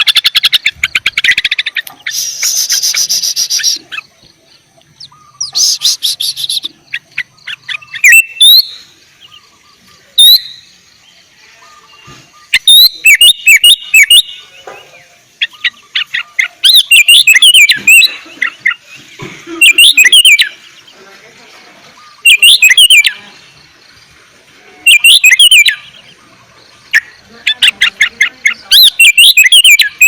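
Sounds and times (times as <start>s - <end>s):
bird singing whistled notes: 0.0s - 21.0s, 21.9s - 23.8s, 24.8s - 30.0s.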